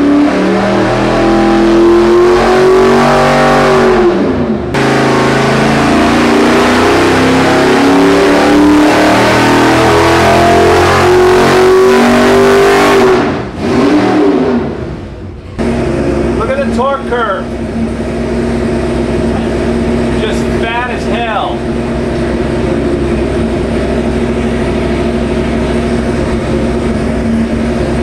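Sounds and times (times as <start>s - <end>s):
engine running hard: 0.0s - 28.0s.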